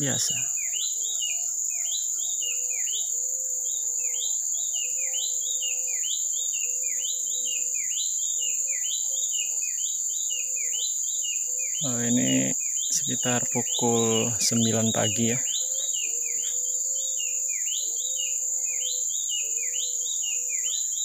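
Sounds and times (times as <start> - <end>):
bird singing whistled notes: 0.0 - 21.0
high insect drone: 0.0 - 21.0.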